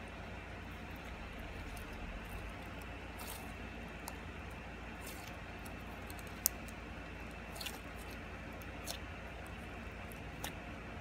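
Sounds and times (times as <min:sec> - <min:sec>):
slime squishing: 0:00.0 - 0:11.0
slime crackles: 0:00.6 - 0:11.0.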